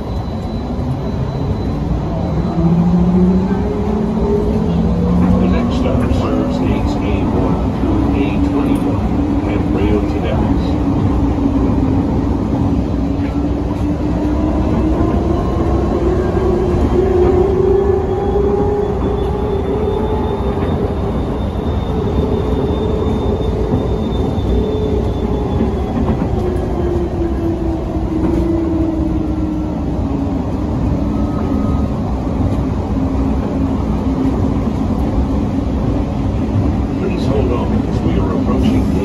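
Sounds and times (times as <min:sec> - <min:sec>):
train running inside car: 0:00.0 - 0:39.0.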